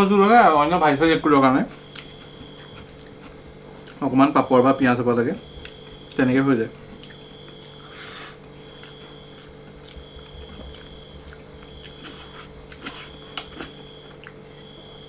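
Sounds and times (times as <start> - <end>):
faint steady hum: 0.0 - 15.0
man chewing food: 1.3 - 4.3, 5.4 - 15.0.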